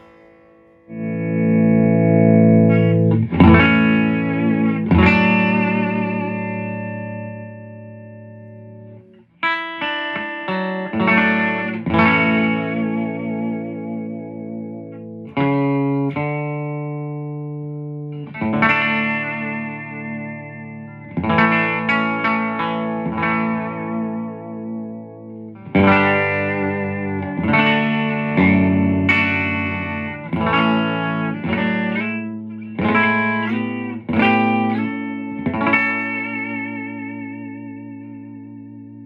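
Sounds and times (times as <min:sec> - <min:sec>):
electric guitar strummed chords: 0:00.0 - 0:39.0.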